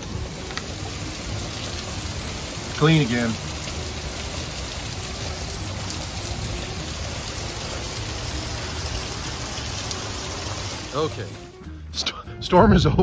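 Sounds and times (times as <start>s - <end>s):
heavy rain pouring: 0.0s - 11.6s
rain splashing on puddles: 0.0s - 11.6s.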